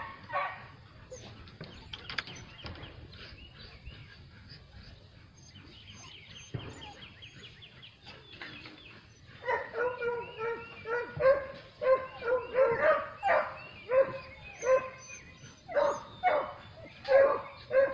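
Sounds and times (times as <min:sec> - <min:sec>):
small birds chirping: 0:00.2 - 0:17.9.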